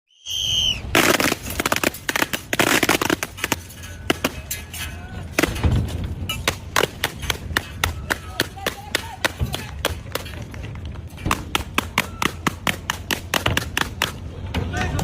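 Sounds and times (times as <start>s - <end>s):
dense crackling and popping: 0.6s - 14.0s.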